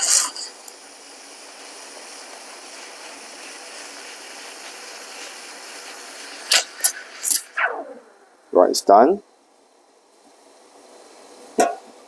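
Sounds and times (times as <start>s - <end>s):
steam wand hissing in milk: 0.0s - 12.0s.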